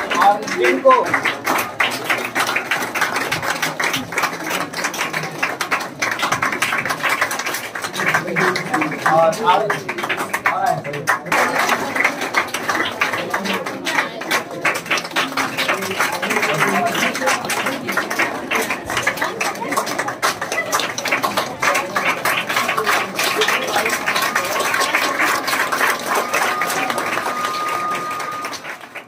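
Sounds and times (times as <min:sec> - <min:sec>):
crowd clapping: 0:00.0 - 0:29.0.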